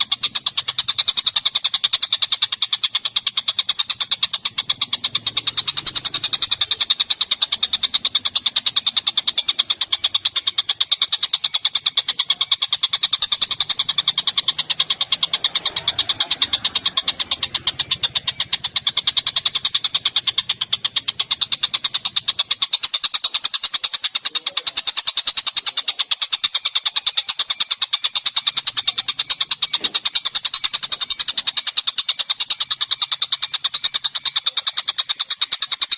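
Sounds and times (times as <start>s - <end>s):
songbird chirping rapidly: 0.0s - 35.9s.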